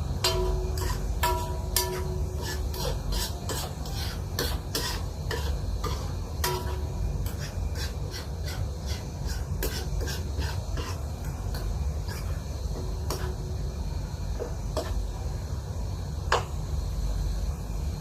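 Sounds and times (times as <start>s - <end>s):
utensil scraping in a pan: 0.0s - 15.4s.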